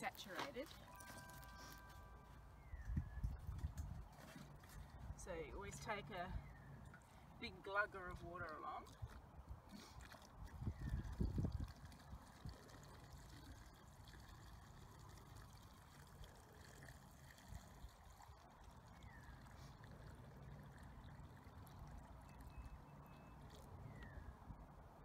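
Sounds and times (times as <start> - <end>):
water trickling into soil hole: 0.0 - 25.0.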